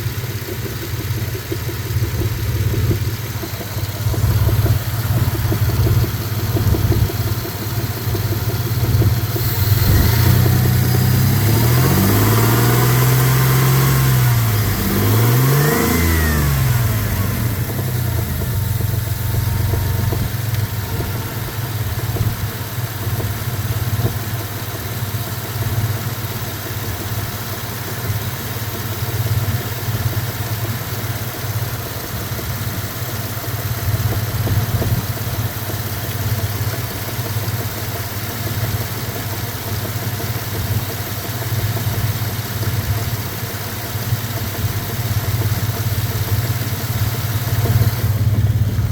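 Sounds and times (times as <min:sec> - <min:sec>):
engine revving and idling: 0:00.0 - 0:48.9.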